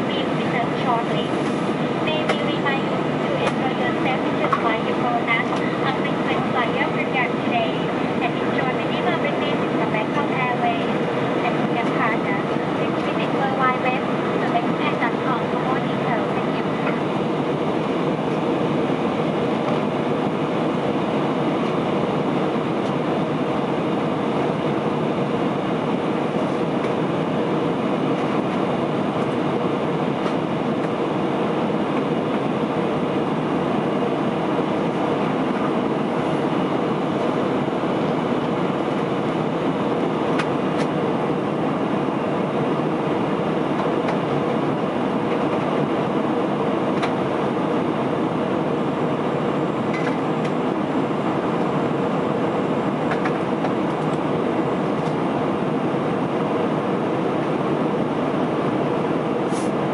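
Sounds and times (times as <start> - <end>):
cabin hum: 0.0 - 59.9
engine and airflow rush: 0.0 - 59.9.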